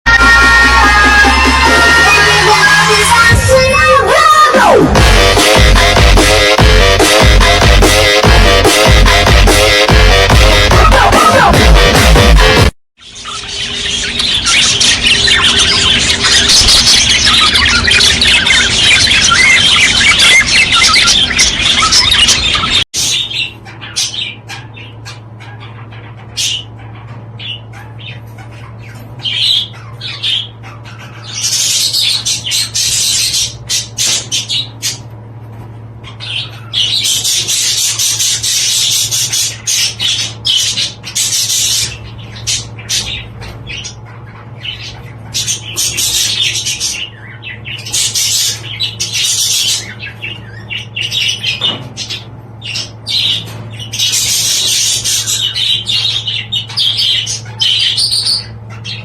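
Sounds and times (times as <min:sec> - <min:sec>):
budgerigars chattering: 0:02.1 - 0:35.1, 0:36.0 - 0:59.0.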